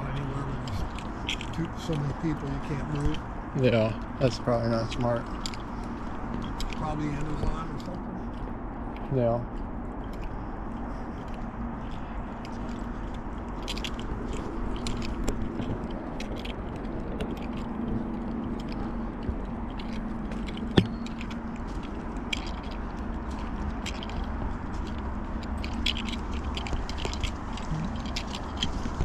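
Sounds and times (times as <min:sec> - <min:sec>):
footsteps crunching on trail: 0:00.0 - 0:29.0.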